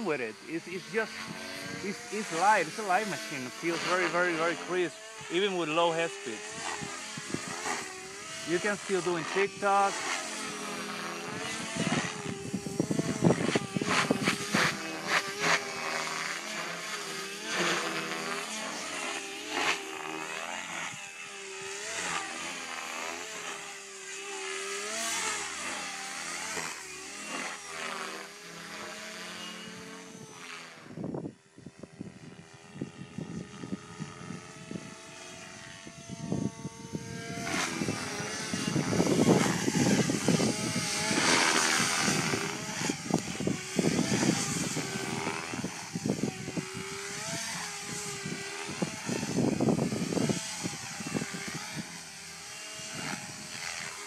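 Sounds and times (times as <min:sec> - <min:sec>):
electric motor whining: 0:00.0 - 0:54.0
helicopter rotor blades whooshing: 0:00.0 - 0:54.0.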